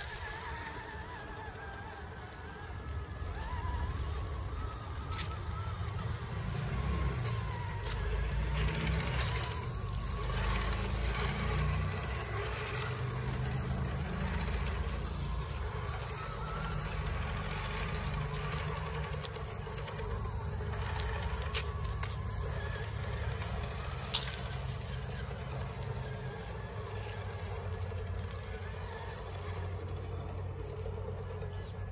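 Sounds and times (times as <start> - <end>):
electric motors and gears whining: 0.0 - 31.9.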